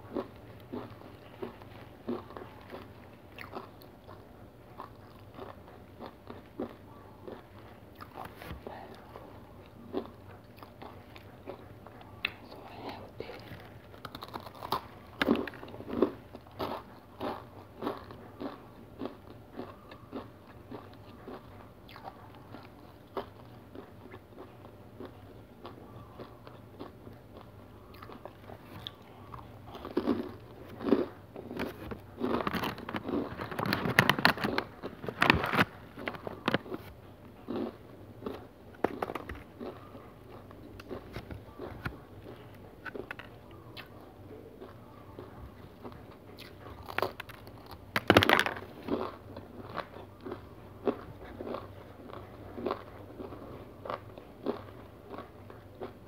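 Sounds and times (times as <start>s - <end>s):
chewing crunchy cereal bar: 0.0s - 56.0s.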